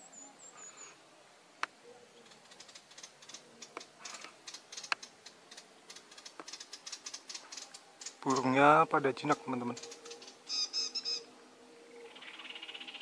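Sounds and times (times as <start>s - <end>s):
small birds chipping calls: 1.6s - 13.0s.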